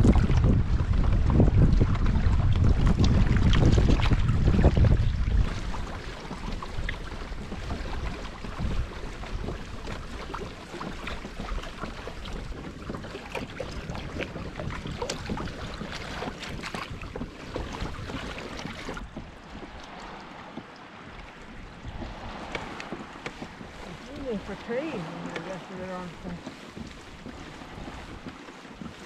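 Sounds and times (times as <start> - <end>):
water splashing against kayak hull: 0.0 - 29.0
wind buffeting microphone: 0.0 - 29.0.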